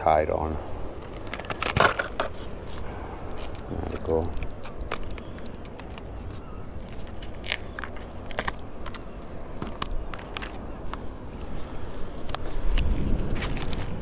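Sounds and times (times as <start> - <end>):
packaging crackling and clicking: 1.0 - 11.5, 12.1 - 14.0.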